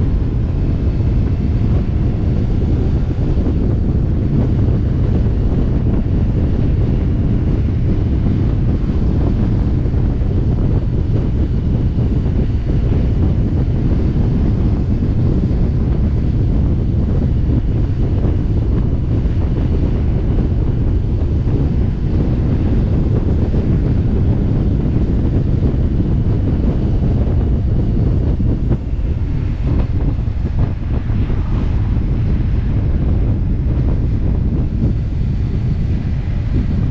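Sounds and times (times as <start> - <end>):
motorcycle engine and road rumble: 0.0 - 36.9
wind buffeting microphone: 0.0 - 36.9.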